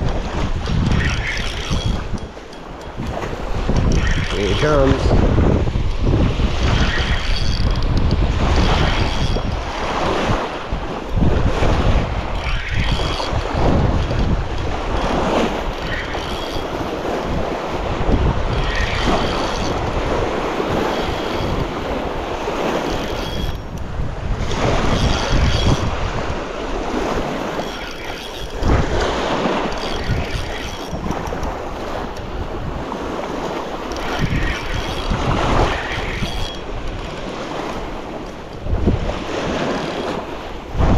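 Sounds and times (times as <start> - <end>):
lake water lapping at shore: 0.0 - 40.9
wind buffeting microphone: 0.0 - 40.9.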